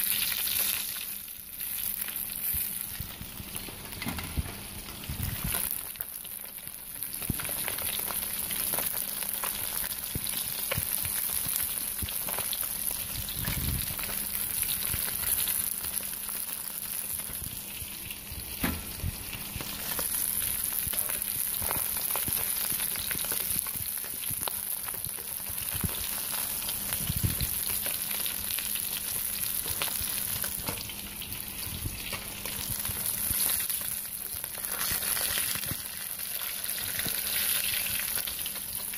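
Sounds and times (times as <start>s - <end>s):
fish sizzling in hot oil: 0.0s - 38.9s
oil popping and crackling: 0.0s - 38.9s.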